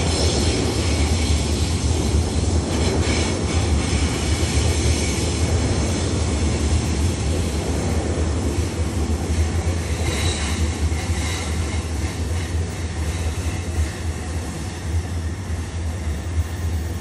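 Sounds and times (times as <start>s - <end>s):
hiss from wheels and track: 0.0s - 17.0s
train carriage rumble: 0.0s - 17.0s.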